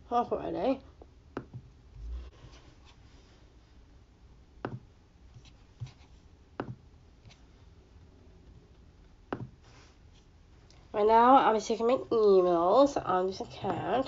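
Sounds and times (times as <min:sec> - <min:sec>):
faint low room hum: 0:00.0 - 0:14.0.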